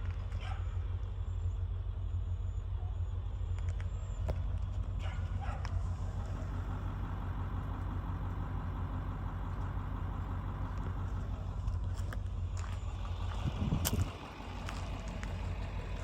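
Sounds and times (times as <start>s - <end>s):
wood chipper engine rumbling: 0.0s - 16.0s.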